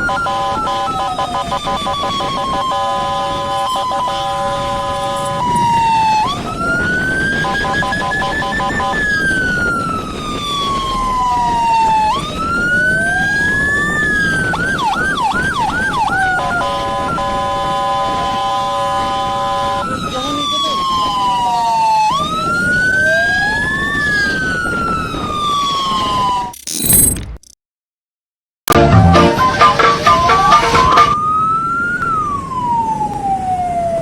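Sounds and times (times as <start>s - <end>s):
electronic emergency sirens: 0.0s - 27.1s, 28.7s - 34.0s.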